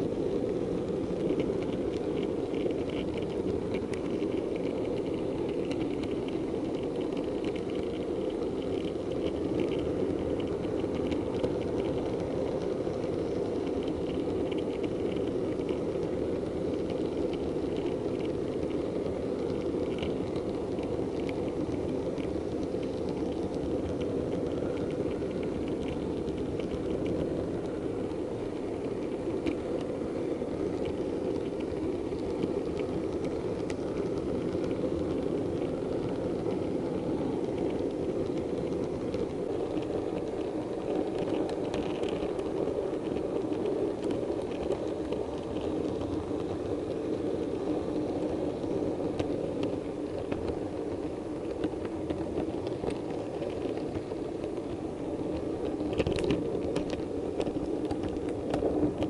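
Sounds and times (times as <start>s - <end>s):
light irregular clicking: 0.2s - 59.0s.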